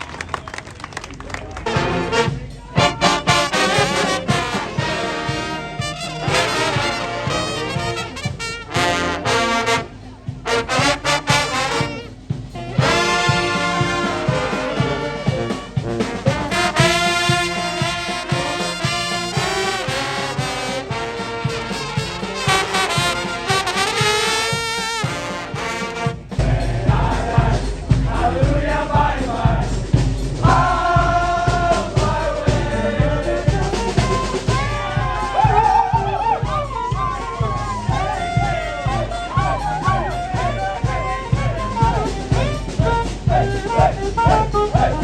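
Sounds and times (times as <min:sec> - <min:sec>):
trumpet: 0:01.6 - 0:27.5, 0:30.4 - 0:45.0
brass jazz music: 0:01.6 - 0:45.0
trombone: 0:01.6 - 0:45.0.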